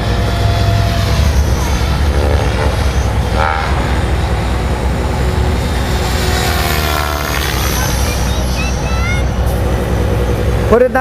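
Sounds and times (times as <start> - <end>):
model aircraft engine whine: 0.0 - 11.0.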